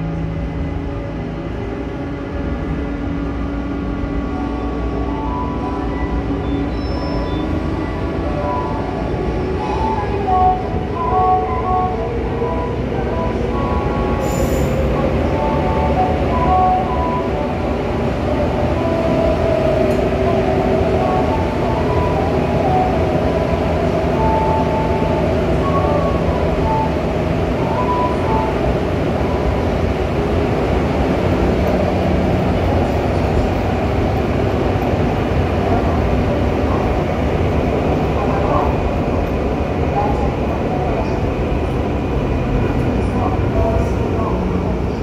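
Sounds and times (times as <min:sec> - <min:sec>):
subway train wheels rumbling: 0:00.0 - 0:45.0.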